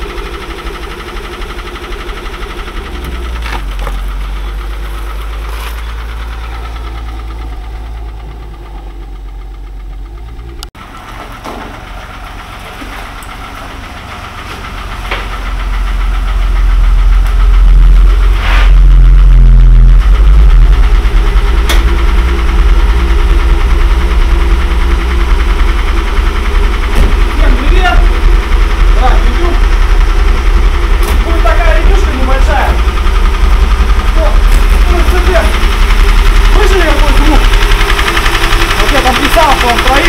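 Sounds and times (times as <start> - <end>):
car engine knocking: 0.0 - 40.0.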